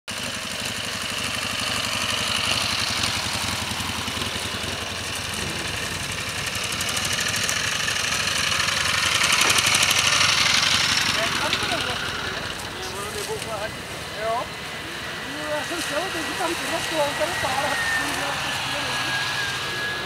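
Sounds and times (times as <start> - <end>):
motorcycle engine running: 0.1 - 20.0.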